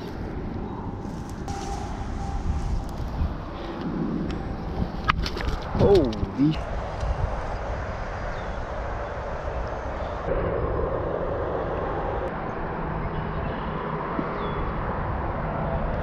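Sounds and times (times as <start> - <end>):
outdoor rumble and hiss: 0.0 - 16.0.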